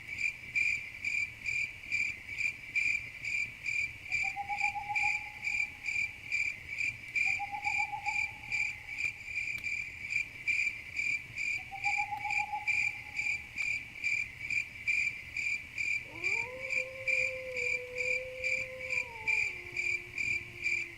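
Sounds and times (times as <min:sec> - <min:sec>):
crickets chirping: 0:00.1 - 0:20.9.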